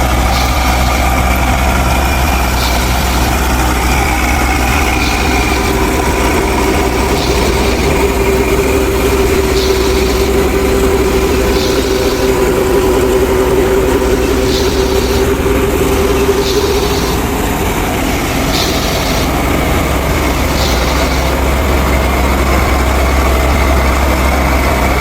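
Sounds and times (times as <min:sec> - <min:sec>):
engine running: 0:00.0 - 0:25.0
steady whine: 0:00.0 - 0:25.0.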